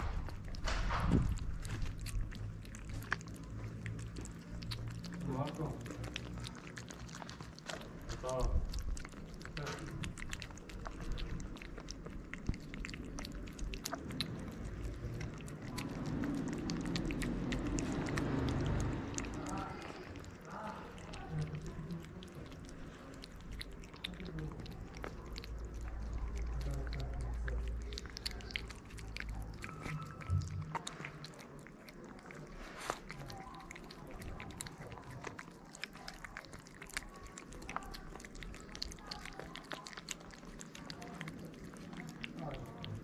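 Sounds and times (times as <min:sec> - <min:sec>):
cats chewing and lapping food: 0:00.0 - 0:43.0.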